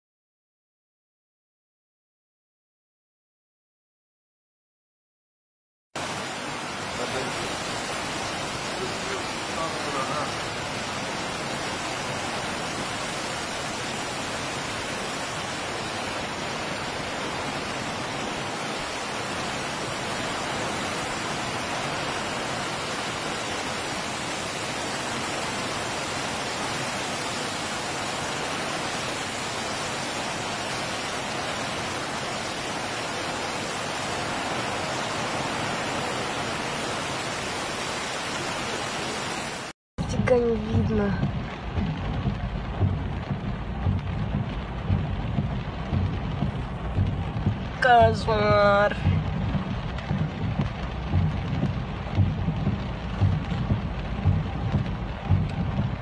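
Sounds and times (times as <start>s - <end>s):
torrential rain: 6.0s - 56.0s.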